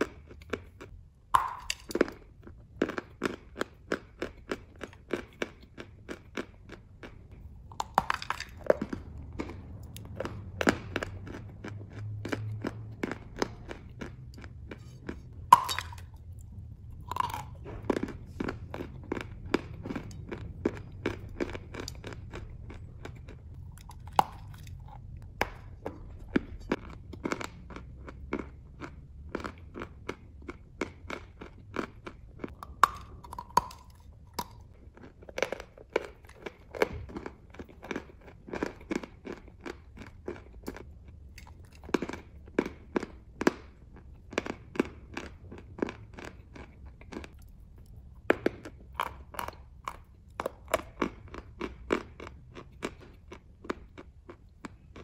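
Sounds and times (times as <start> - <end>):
chewing chalk crunches: 0.0 - 55.0.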